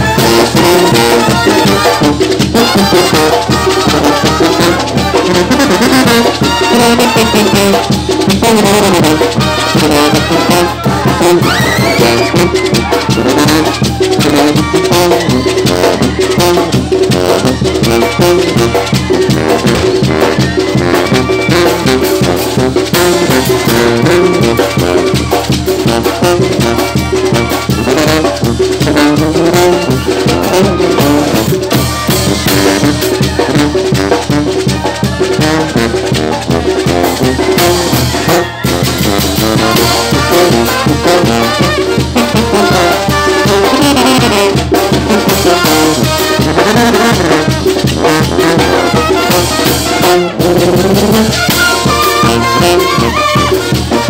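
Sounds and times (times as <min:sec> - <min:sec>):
congas: 0:00.0 - 0:54.0
snare drums and cymbals: 0:00.0 - 0:54.0
trumpets and trombones: 0:00.0 - 0:54.0.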